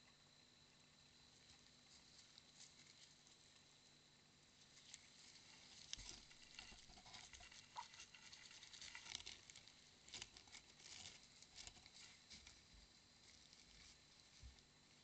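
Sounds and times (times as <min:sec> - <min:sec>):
faint scratching and clicking: 0:00.0 - 0:15.0.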